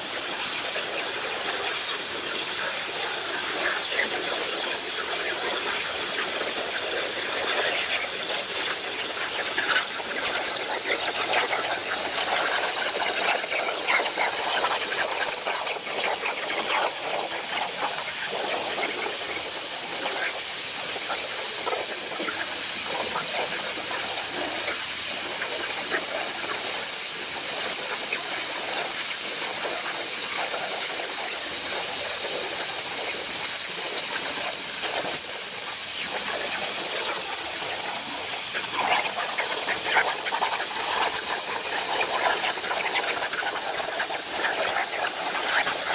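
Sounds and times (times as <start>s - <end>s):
plasma torch cutting metal: 0.0s - 45.9s.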